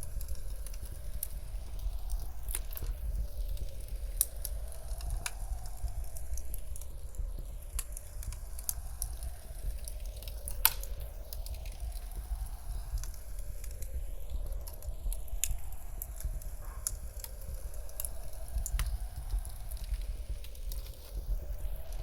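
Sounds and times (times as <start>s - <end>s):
faint howling wind: 0.0s - 22.0s
wood fire crackling: 0.0s - 22.0s.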